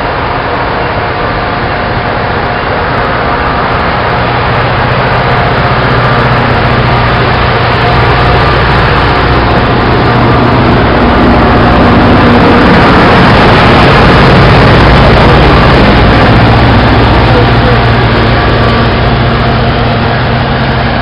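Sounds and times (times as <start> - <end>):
low engine drone: 0.0 - 21.0
train wheel and rail noise: 0.0 - 21.0.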